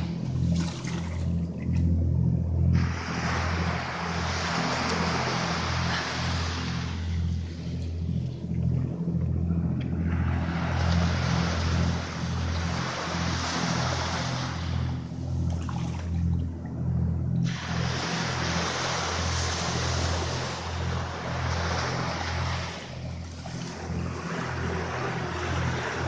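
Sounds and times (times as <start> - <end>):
small waves washing on beach: 0.0 - 1.9, 2.7 - 9.0, 9.8 - 16.4, 17.4 - 26.0
low continuous hum: 0.0 - 26.0.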